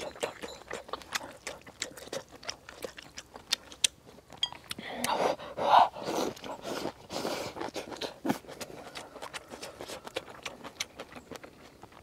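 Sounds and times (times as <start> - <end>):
close chewing: 0.0 - 12.0.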